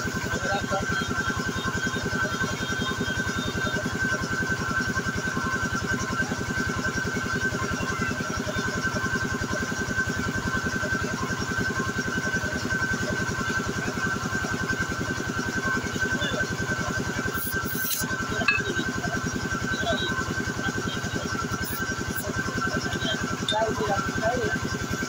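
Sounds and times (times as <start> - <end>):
air compressor chugging: 0.0 - 25.0.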